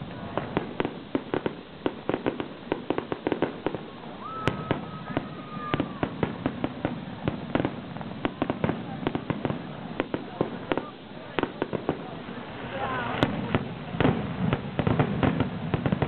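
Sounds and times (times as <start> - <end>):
fireworks bursts: 0.0 - 16.0
high firework whistle: 0.0 - 16.0.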